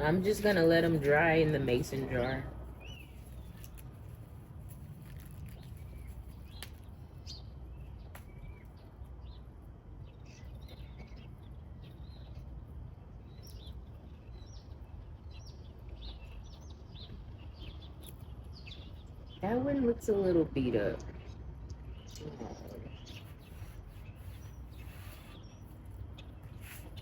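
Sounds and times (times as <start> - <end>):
low background hum: 0.0 - 27.0
small birds chirping: 0.0 - 27.0.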